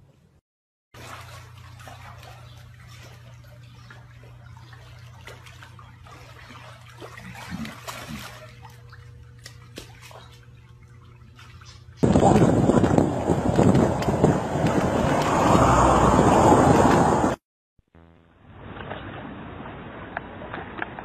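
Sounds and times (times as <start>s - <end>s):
water splashing and lapping: 0.9s - 17.4s, 18.6s - 21.0s.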